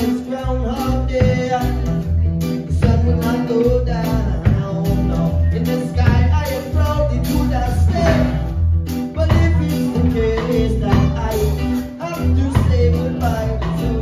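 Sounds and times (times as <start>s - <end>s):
live band playing: 0.0s - 14.0s
man singing lead: 0.0s - 14.0s.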